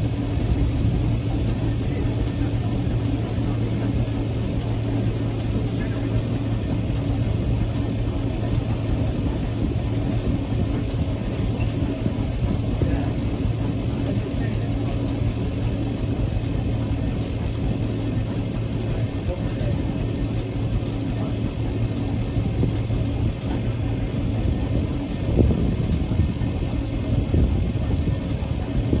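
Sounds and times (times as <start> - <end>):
steam engine running: 0.0 - 29.0.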